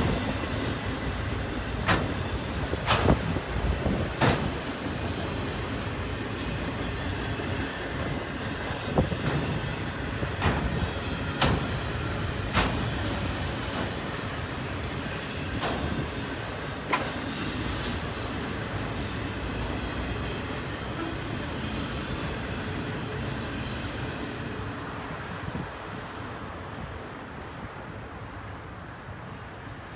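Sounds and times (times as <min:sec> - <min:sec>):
steel wheels on track: 0:00.0 - 0:25.3.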